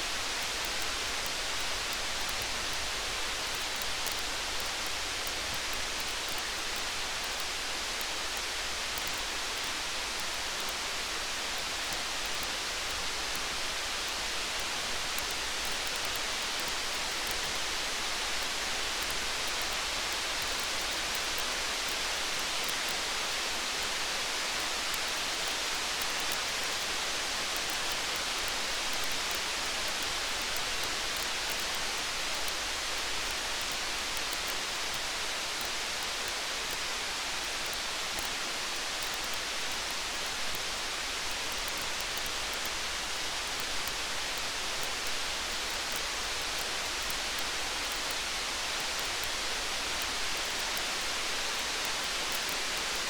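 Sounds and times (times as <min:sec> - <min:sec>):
faint light ticks: 0:00.0 - 0:53.0
steady rain hiss: 0:00.0 - 0:53.0.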